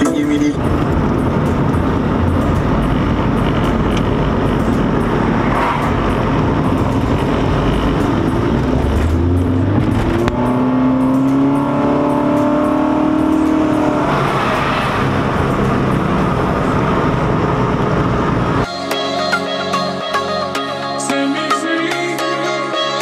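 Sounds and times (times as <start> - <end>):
car engine accelerating: 0.0 - 18.7
road and wind noise in car: 0.0 - 18.7.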